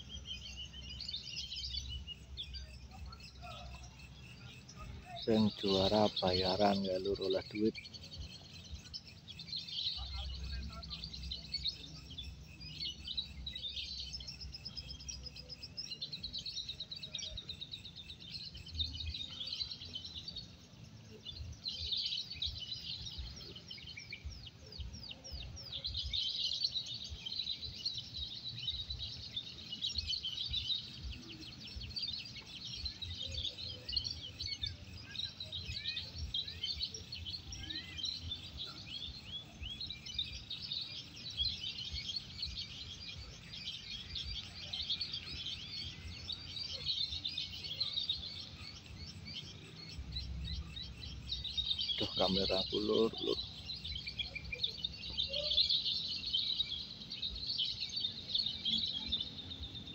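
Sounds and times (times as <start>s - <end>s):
lovebirds chattering trills: 0.0s - 59.9s.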